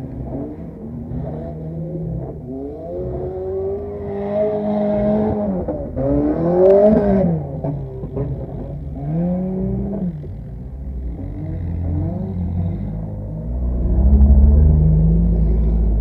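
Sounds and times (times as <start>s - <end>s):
car engine revving: 0.1s - 16.0s.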